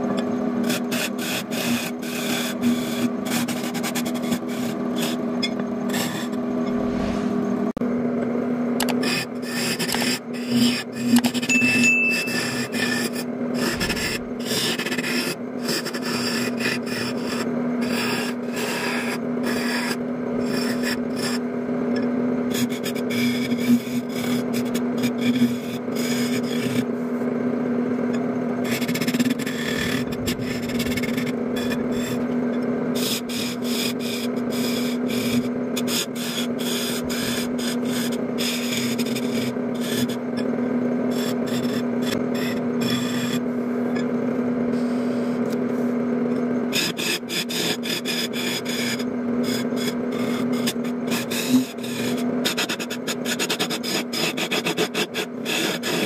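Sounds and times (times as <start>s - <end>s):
chisel scraping spinning wood: 0.1s - 7.8s, 8.8s - 56.0s
wood lathe motor hum: 8.8s - 56.0s.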